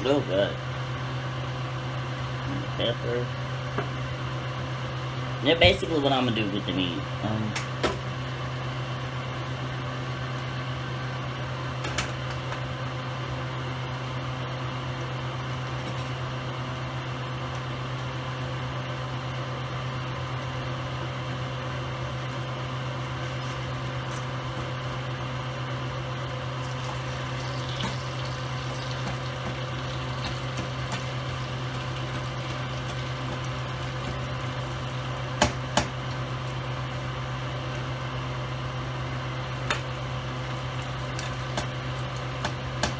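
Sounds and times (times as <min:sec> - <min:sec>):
low hum with hiss: 0:00.0 - 0:42.9.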